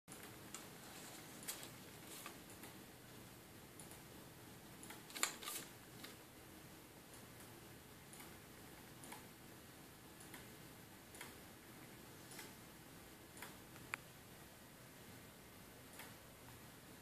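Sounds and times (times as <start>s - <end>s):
faint regular ticking: 0.1s - 5.2s, 6.9s - 14.1s, 15.0s - 16.7s.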